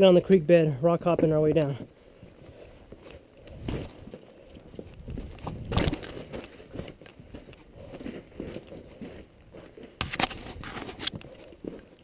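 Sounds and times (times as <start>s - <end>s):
footsteps crunching on gravel: 1.0s - 12.0s.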